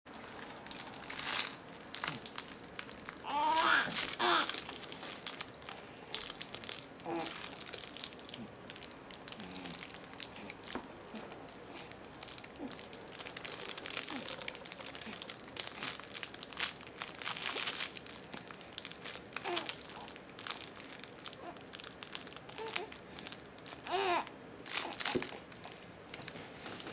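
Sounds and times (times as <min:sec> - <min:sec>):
crinkle toy rustling: 0:00.1 - 0:26.9.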